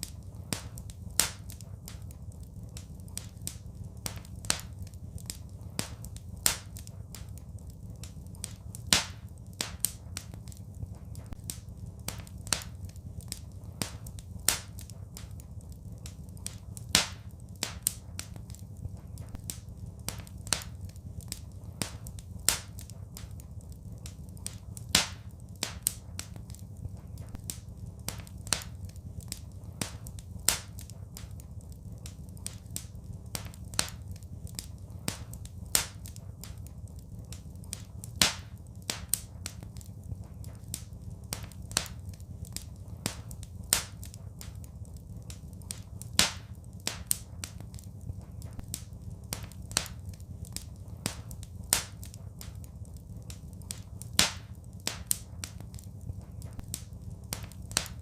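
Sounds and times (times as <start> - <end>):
low rumble of fire: 0.0 - 58.0
wood fire crackling: 0.0 - 58.0.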